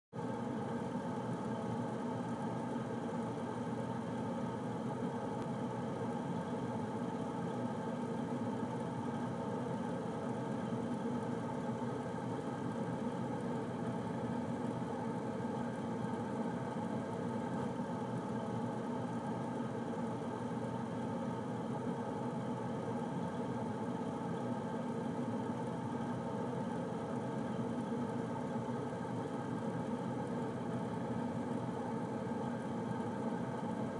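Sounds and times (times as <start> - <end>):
air conditioner humming: 0.2 - 33.9.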